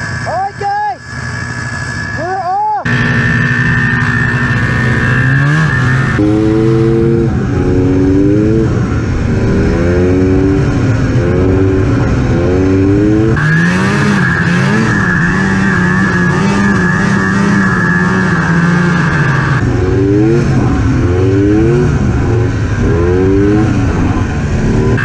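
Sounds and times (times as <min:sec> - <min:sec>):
snowmobile engine revving: 0:00.0 - 0:25.0
steady high whine: 0:00.0 - 0:25.0.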